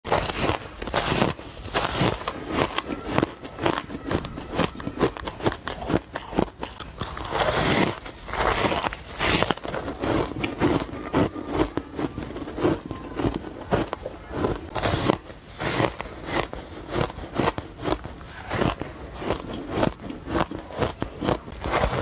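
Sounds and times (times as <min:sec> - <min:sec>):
ice crunching while chewed: 0:00.1 - 0:22.0.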